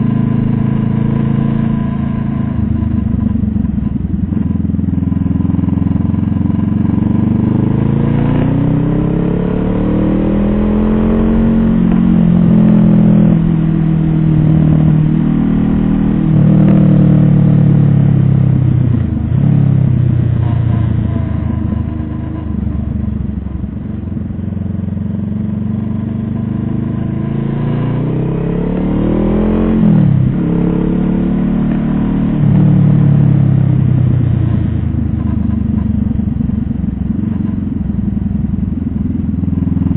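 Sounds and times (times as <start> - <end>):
vehicle engine accelerating: 0.0 - 39.9.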